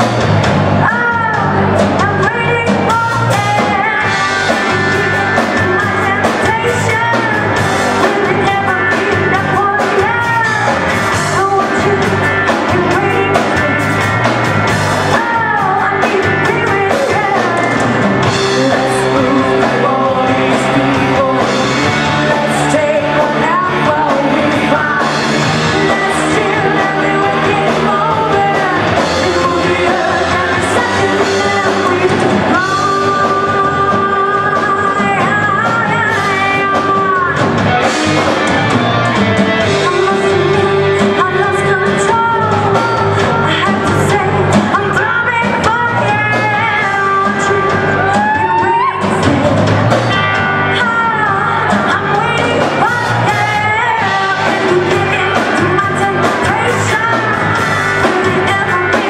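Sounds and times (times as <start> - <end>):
rock band playing: 0.0 - 59.0
person singing into a microphone: 0.8 - 59.0.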